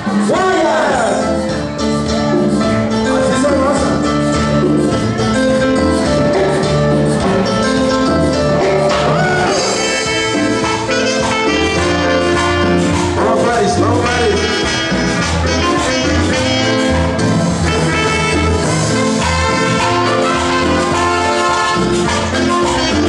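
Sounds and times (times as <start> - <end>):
latin dance music with brass: 0.0 - 23.0.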